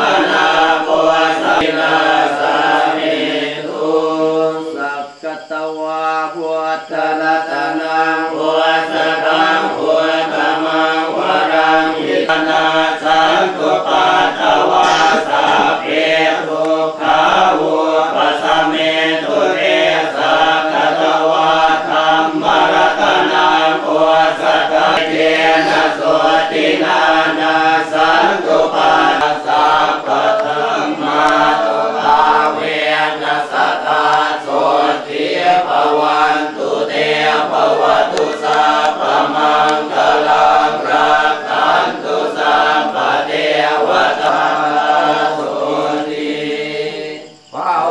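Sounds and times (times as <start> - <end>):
men chanting in unison: 0.0 - 47.9.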